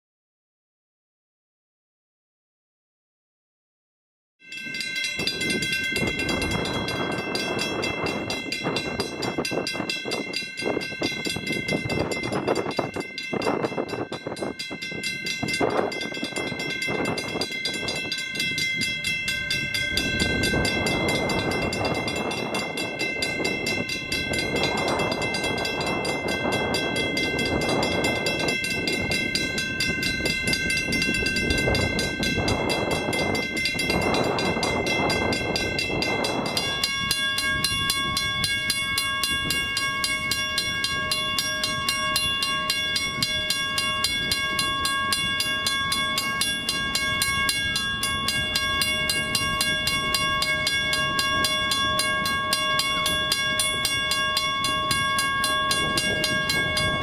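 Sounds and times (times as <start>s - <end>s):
level crossing bell ringing: 4.4s - 57.0s.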